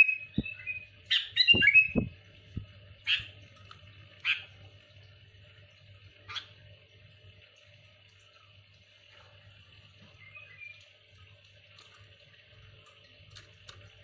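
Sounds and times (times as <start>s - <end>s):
faint steady hum and hiss: 0.0s - 14.0s.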